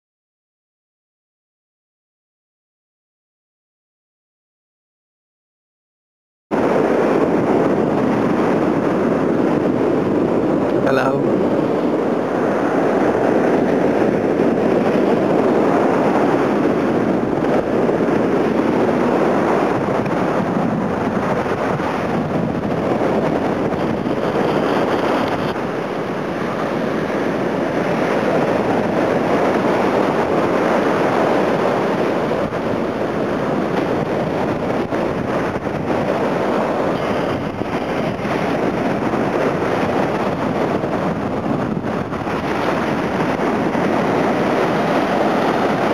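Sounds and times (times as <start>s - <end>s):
wind buffeting microphone: 6.5s - 45.9s
sea surf breaking on beach: 6.6s - 45.9s.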